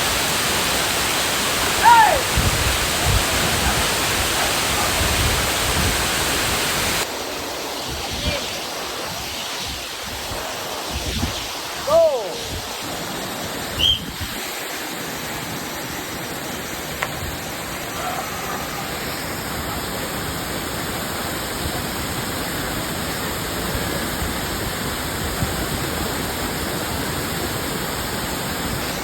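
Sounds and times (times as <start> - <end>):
waterfall pouring: 0.0 - 29.0.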